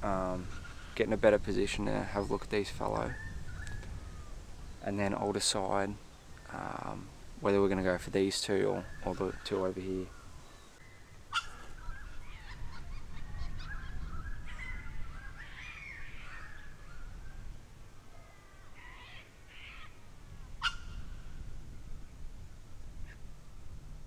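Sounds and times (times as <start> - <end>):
birds calling and warbling: 0.0 - 22.2.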